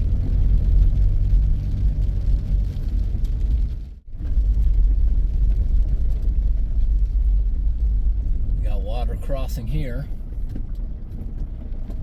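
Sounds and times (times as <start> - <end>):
vehicle driving on gravel: 0.0 - 12.0.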